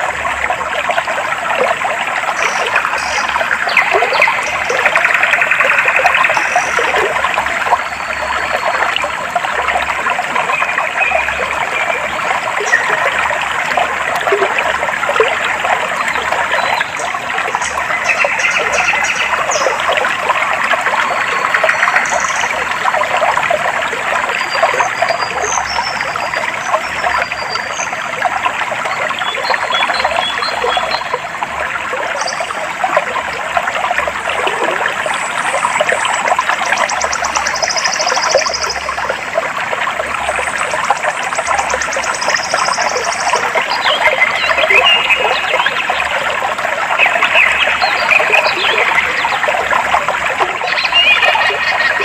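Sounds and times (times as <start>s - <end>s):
stream water babbling: 0.0s - 52.0s.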